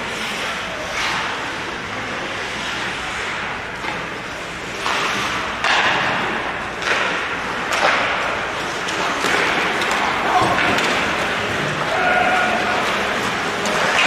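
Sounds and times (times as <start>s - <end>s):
skates scraping ice: 0.0s - 14.0s.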